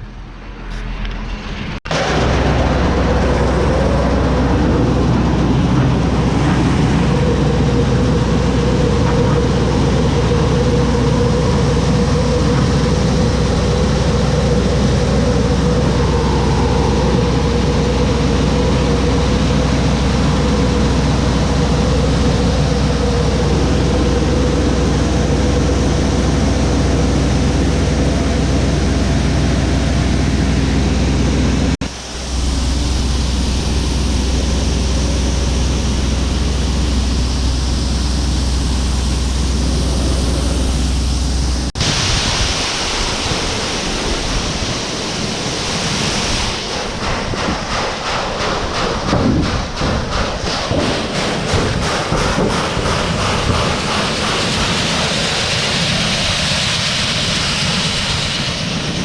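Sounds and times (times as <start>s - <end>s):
steady tone: 0.0s - 56.3s
tractor engine drone: 0.0s - 59.0s.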